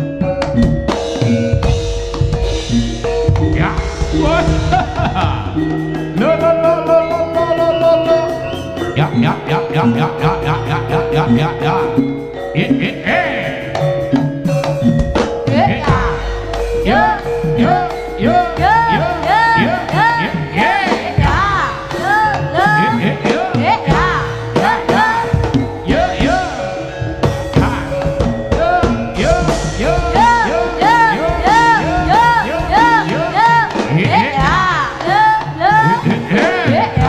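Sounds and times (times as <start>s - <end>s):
drums and gamelan: 0.0s - 37.0s
held tone: 0.0s - 37.0s
reed pipe melody: 0.0s - 37.0s.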